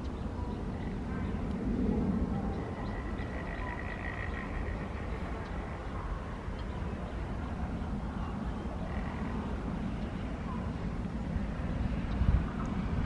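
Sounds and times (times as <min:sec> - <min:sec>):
faint croaking frogs: 0:00.0 - 0:13.0
wind rumble on microphone: 0:00.0 - 0:13.0.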